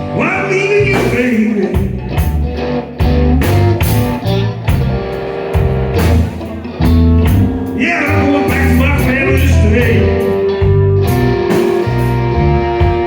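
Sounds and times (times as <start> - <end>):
bass guitar: 0.0 - 13.0
electric guitar lead: 0.0 - 13.0
drum kit steady beat: 0.8 - 13.0.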